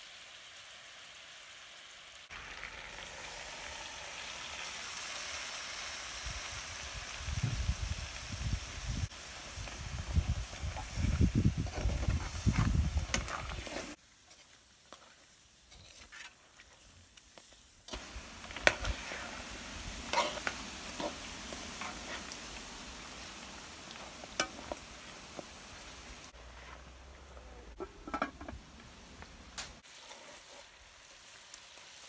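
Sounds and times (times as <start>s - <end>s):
stew simmering sizzle: 0.0s - 32.0s.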